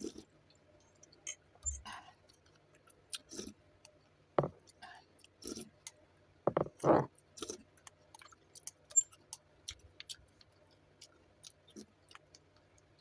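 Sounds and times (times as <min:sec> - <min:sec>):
quiet chewing with mouth clicks: 0:00.0 - 0:06.1, 0:07.1 - 0:13.0.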